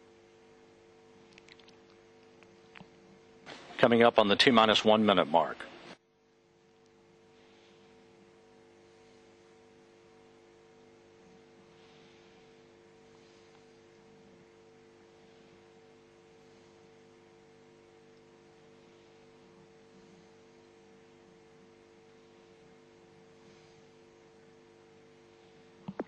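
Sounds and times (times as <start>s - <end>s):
faint electrical hum: 0.0s - 26.0s.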